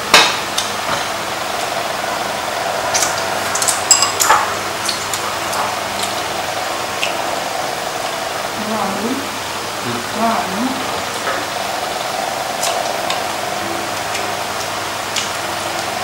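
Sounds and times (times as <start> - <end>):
mechanical motor hum: 0.0 - 16.0.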